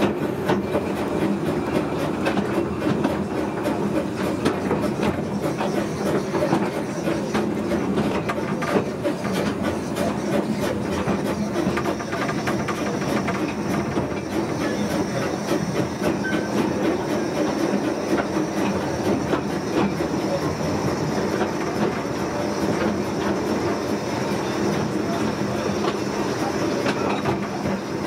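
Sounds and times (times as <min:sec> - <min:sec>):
railway carriage rumble: 0:00.0 - 0:28.0.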